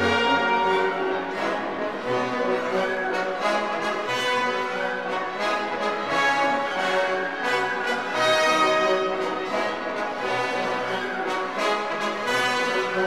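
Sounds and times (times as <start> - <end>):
orchestral music with french horns: 0.0 - 13.0.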